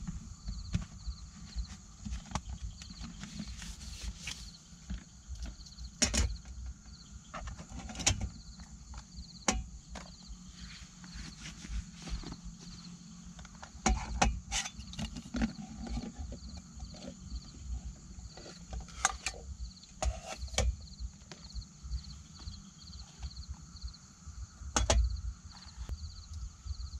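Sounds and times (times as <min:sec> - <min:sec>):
pulsing insect chirp: 0:00.0 - 0:07.6, 0:08.2 - 0:26.9.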